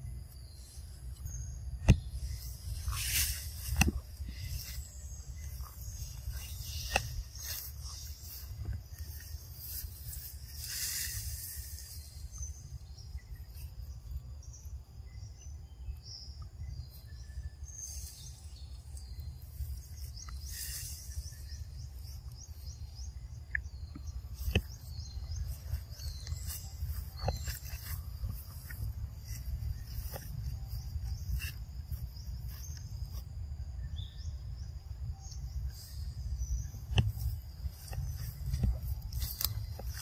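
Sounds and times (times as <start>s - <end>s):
birds chirping: 0.0s - 40.0s
insects chirping: 0.0s - 40.0s.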